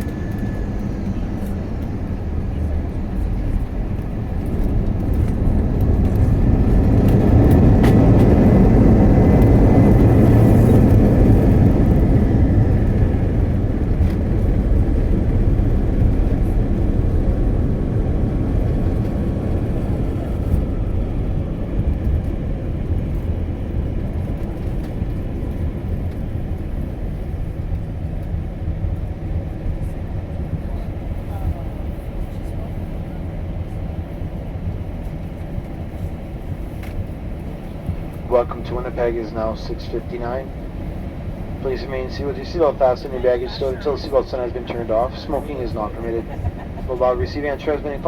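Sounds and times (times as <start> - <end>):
jet engine roar in cabin: 0.0 - 48.0.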